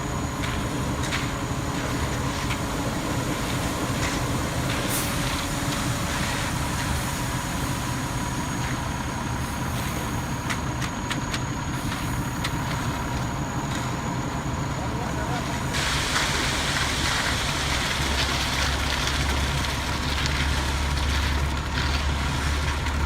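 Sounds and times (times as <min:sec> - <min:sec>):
cement mixer truck running: 0:00.0 - 0:23.0.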